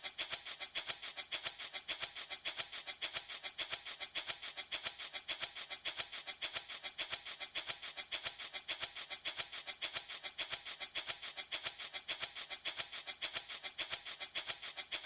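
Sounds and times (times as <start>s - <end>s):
wooden rattle shaken: 0.0s - 15.0s.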